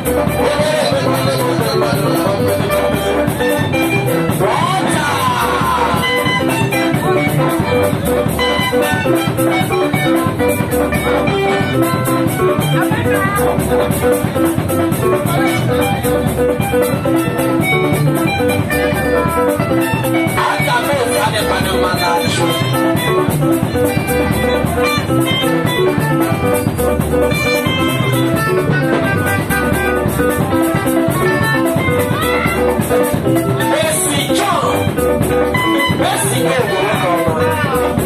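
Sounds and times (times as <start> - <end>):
loud amplified live band: 0.0 - 38.0.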